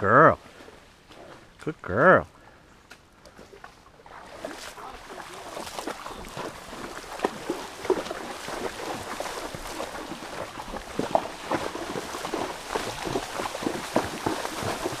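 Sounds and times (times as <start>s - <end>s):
hooves splashing in water: 0.4s - 1.8s, 2.9s - 15.0s.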